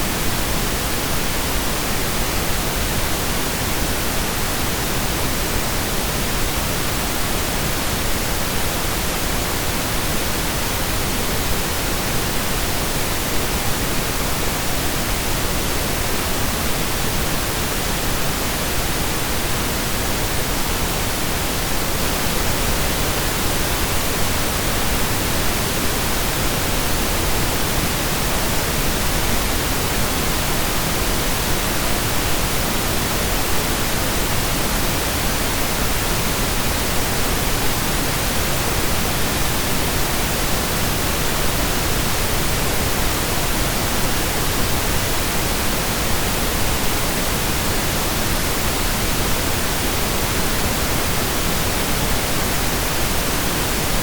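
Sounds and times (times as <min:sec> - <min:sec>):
pink noise hiss: 0:00.0 - 0:54.0.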